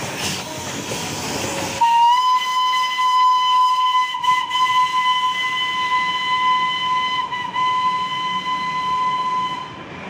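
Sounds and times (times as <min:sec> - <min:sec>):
train rumbling: 0:00.0 - 0:10.0
train whistle: 0:01.8 - 0:09.9.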